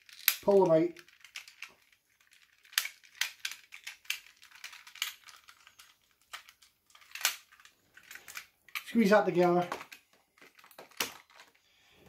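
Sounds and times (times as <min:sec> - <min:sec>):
plastic toy parts clicking: 0:00.0 - 0:11.6.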